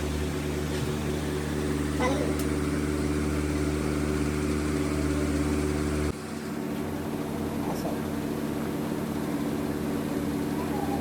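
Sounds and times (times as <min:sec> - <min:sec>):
workshop machine humming: 0:00.0 - 0:11.0.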